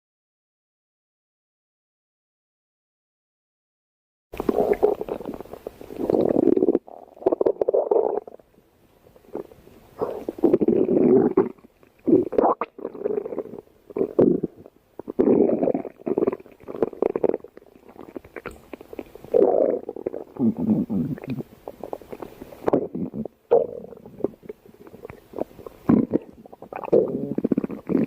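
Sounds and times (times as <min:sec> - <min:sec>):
stomach growling: 0:04.4 - 0:08.5, 0:09.2 - 0:28.0.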